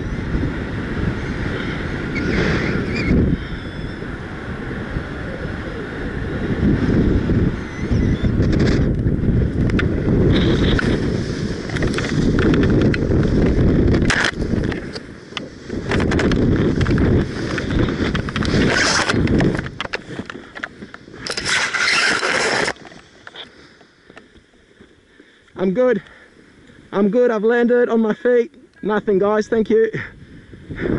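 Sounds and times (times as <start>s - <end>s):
wind buffeting microphone: 0.0s - 23.0s, 25.6s - 30.9s.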